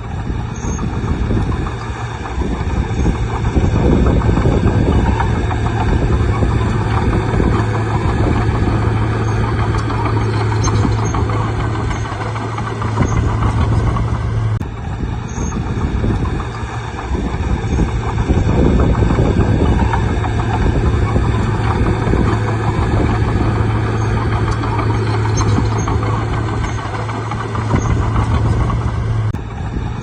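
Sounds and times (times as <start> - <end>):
diesel engine running: 0.0 - 30.0
steady low hum: 0.0 - 30.0.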